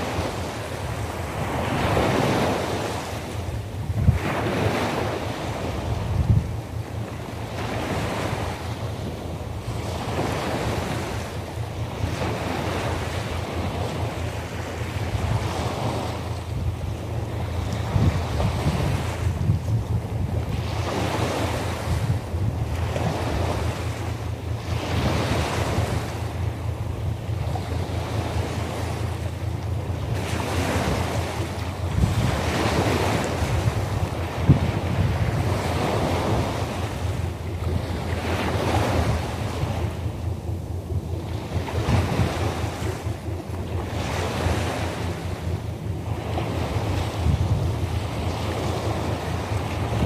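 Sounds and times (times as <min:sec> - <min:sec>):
sea waves breaking: 0:00.0 - 0:50.0
wind rumble on microphone: 0:00.0 - 0:50.0.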